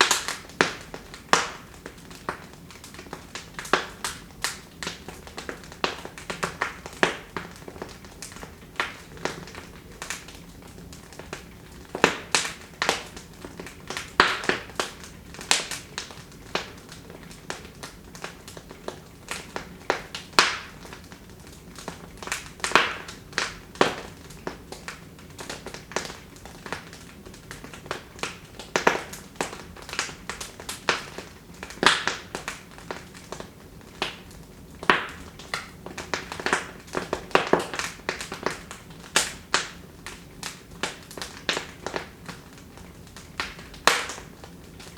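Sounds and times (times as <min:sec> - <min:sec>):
low fire hiss: 0:00.0 - 0:44.9
wood fire crackling and popping: 0:00.0 - 0:44.9.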